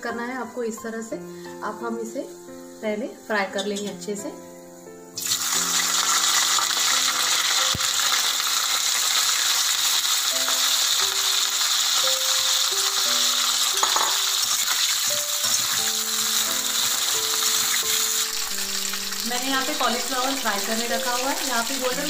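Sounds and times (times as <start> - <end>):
soft background music: 0.0 - 22.0
vegetables sizzling in hot oil: 0.1 - 22.0.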